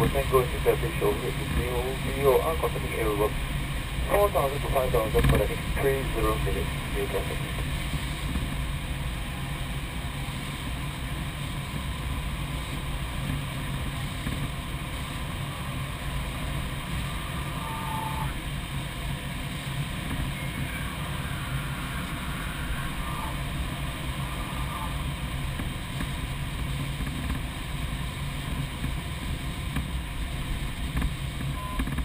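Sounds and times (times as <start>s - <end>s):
rush of airflow: 0.0s - 31.6s
low hum: 0.0s - 32.0s.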